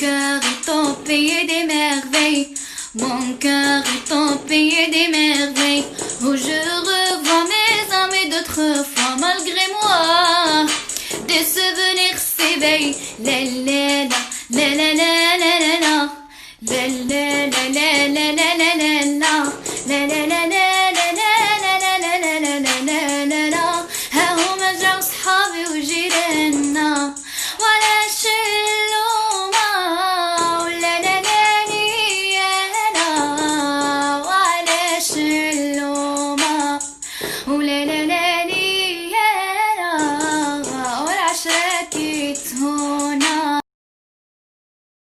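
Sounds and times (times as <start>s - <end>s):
woman singing wordless melismas: 0.0s - 43.6s.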